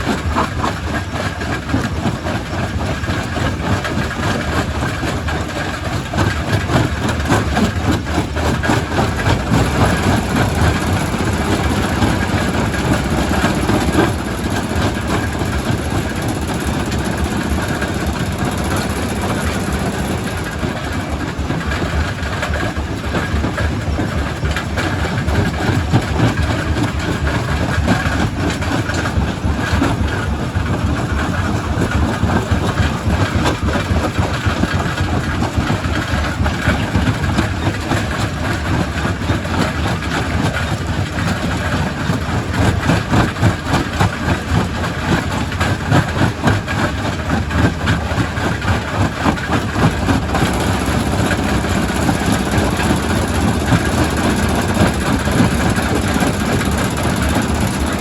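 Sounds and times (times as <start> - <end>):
rock crusher rumbling: 0.1 - 38.2, 39.4 - 58.0.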